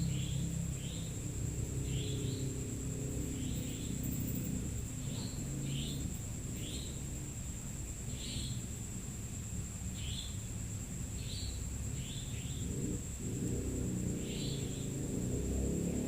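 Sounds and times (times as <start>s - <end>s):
high-pitched insect trill: 0.0s - 16.0s
short insect chirps: 0.0s - 16.0s.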